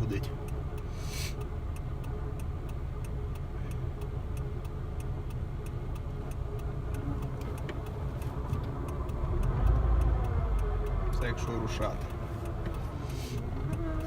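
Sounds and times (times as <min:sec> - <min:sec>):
car engine idling with hum: 0:00.0 - 0:14.0
light regular ticking: 0:00.0 - 0:14.0.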